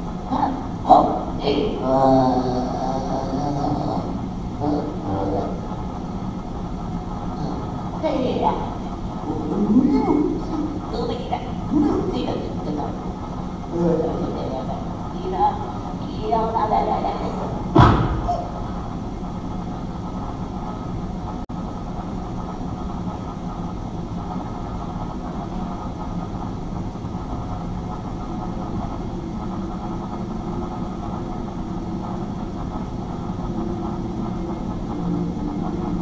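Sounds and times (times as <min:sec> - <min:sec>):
faint held hum: 0:00.0 - 0:36.0
low mechanical rumble: 0:00.0 - 0:36.0.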